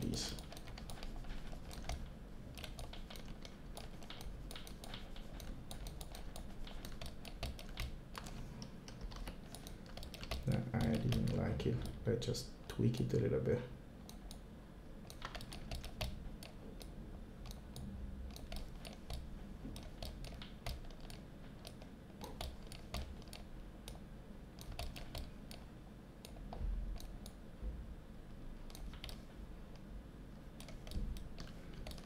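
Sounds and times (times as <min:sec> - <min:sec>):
computer keyboard clicks: 0:00.0 - 0:12.0, 0:15.1 - 0:24.0, 0:24.6 - 0:27.4, 0:28.7 - 0:29.2, 0:30.6 - 0:32.0.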